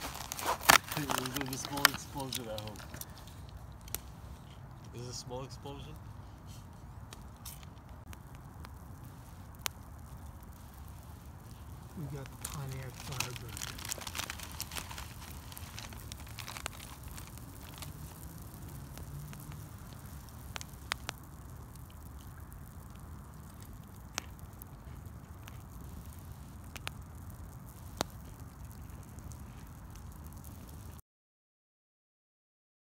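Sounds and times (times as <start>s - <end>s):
sharp pops of fire: 0.0s - 4.7s, 5.9s - 31.0s
campfire crackling: 0.0s - 31.0s.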